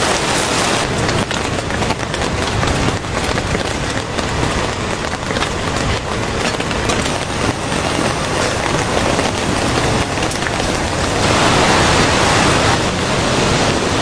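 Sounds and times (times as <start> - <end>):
rain falling: 0.0 - 14.0
sharp raindrop hits: 0.0 - 14.0.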